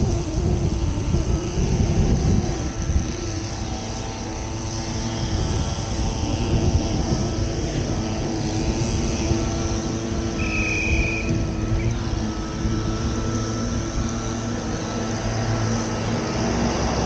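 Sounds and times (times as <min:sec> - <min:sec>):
low hum: 0:00.0 - 0:17.0
vehicle engine rumble: 0:00.0 - 0:17.0.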